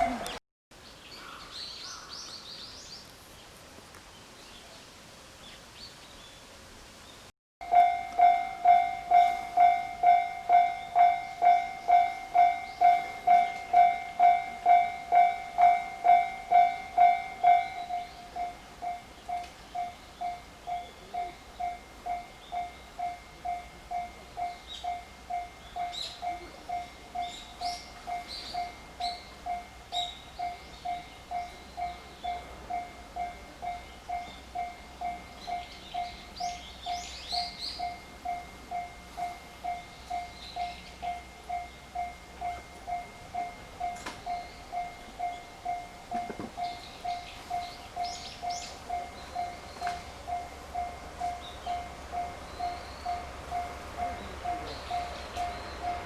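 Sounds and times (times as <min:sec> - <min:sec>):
level crossing alarm ringing: 0:07.6 - 0:56.0.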